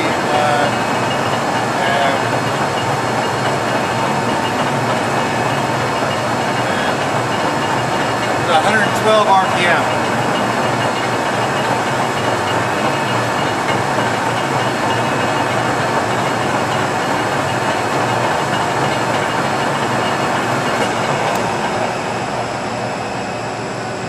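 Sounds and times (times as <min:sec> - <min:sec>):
lathe running: 0:00.0 - 0:24.0.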